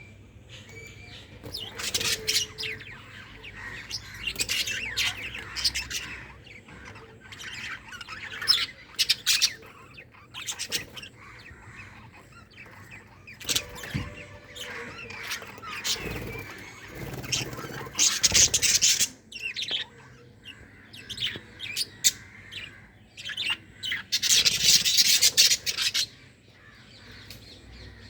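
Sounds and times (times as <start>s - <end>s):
budgerigars chirping and squawking: 0.0s - 28.0s
budgerigars warbling chatter: 0.5s - 28.0s.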